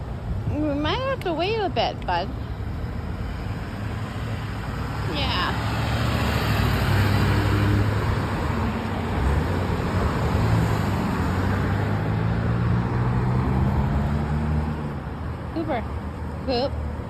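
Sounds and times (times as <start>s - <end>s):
car engines: 0.0s - 17.0s.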